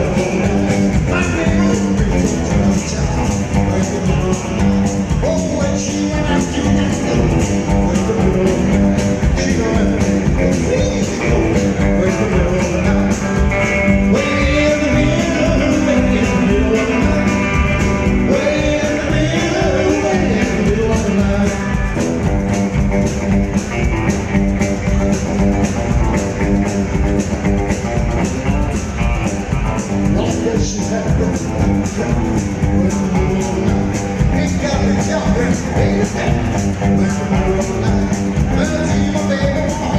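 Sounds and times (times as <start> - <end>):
lead guitar line: 0.0 - 39.9
rockabilly band playing: 0.0 - 39.9.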